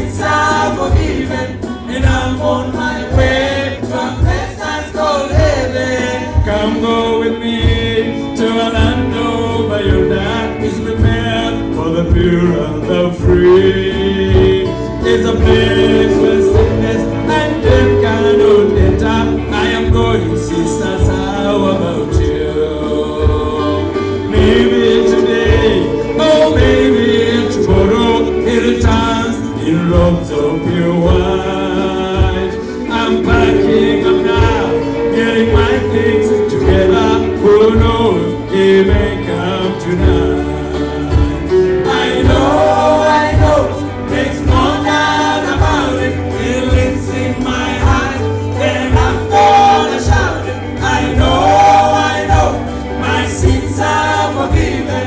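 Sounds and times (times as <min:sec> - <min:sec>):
band with steady beat: 0:00.0 - 0:55.0
gospel choir singing: 0:00.0 - 0:55.0.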